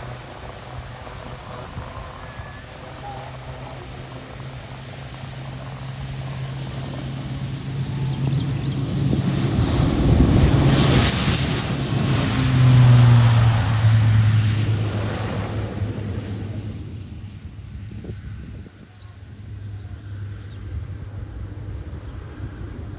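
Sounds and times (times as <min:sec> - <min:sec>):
turboprop aircraft passing: 0:00.0 - 0:22.9.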